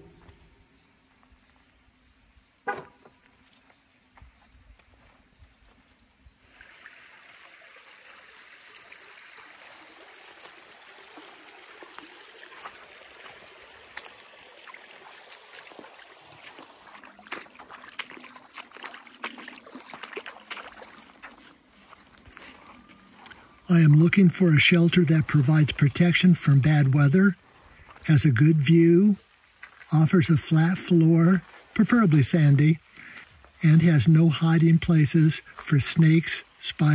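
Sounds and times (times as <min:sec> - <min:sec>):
creek trickling over rocks: 0:04.9 - 0:36.9.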